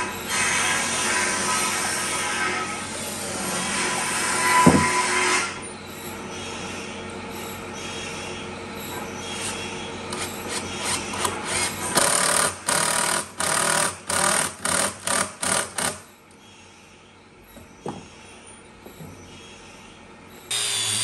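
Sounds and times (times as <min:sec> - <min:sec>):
steady mechanical noise: 0:00.0 - 0:21.0.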